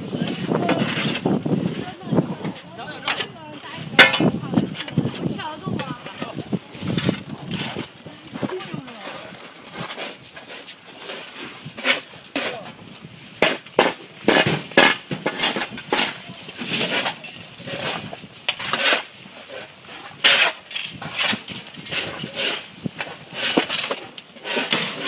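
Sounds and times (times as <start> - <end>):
shovels scraping packed snow: 0.0 - 25.0.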